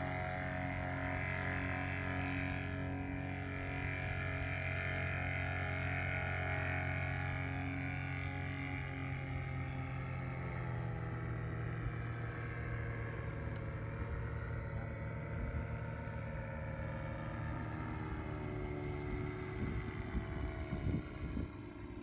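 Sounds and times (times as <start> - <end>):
paramotor engine droning: 0.0 - 22.0.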